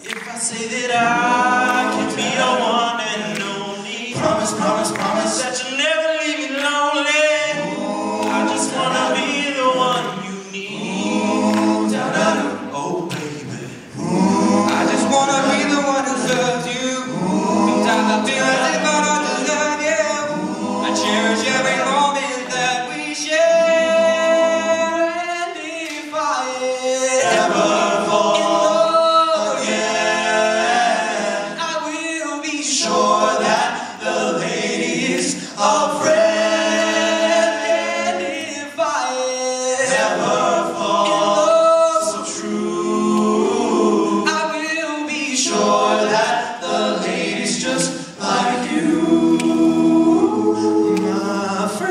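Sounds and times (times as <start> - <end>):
male vocal group singing harmony: 0.0 - 51.9.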